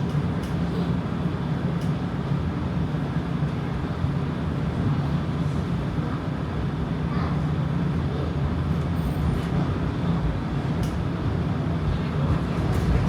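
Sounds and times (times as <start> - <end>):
streetcar hum: 0.4 - 13.0.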